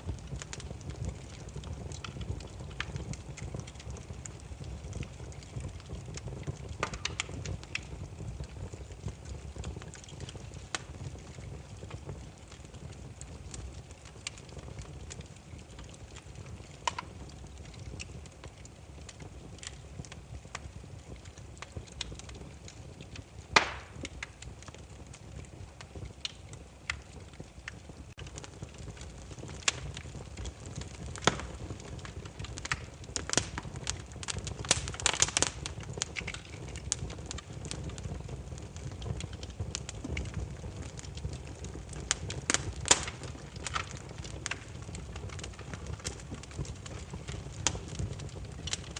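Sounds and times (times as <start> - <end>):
firewood crackling and popping: 0.0 - 48.9
low fire rumble: 0.0 - 48.9.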